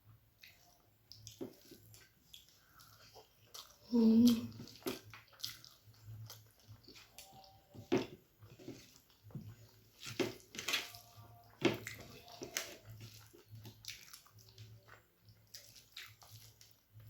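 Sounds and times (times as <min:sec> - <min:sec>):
person chewing wetly: 0:00.1 - 0:17.0.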